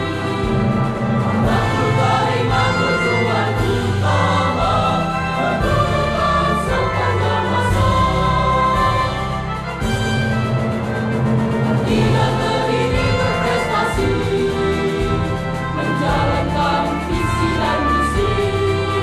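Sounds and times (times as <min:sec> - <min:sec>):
choir singing a march: 0:00.0 - 0:19.0
instrumental backing: 0:00.0 - 0:19.0.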